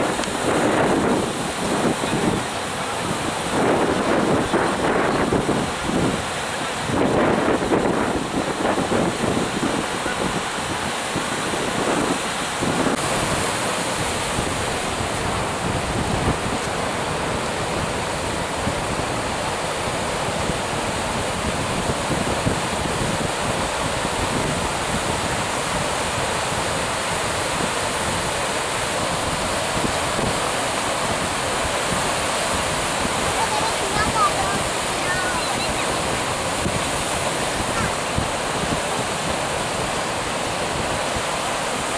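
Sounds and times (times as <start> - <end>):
surf washing over rocks: 0.0 - 41.9.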